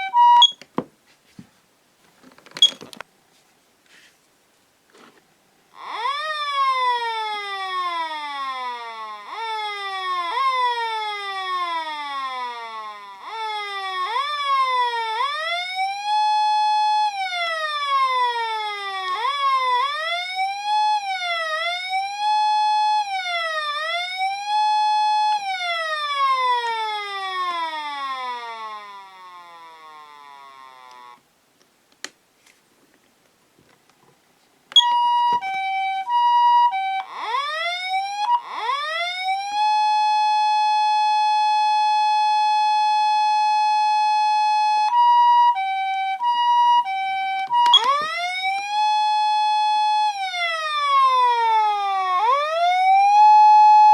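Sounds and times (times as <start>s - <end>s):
siren wailing: 0.0s - 0.5s, 5.8s - 31.2s, 34.8s - 53.9s
two-tone ambulance siren: 0.0s - 0.6s, 5.8s - 31.2s, 34.8s - 53.9s.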